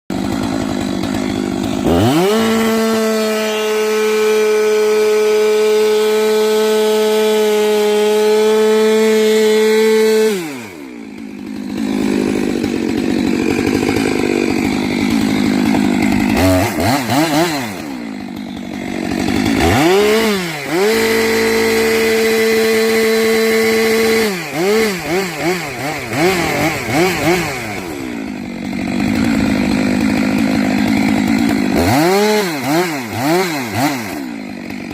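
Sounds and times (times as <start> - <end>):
chainsaw revving: 0.1 - 34.9.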